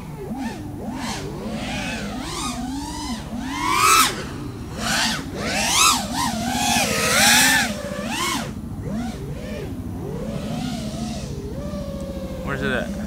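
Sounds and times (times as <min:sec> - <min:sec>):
quadcopter propellers whining: 0:00.0 - 0:13.0.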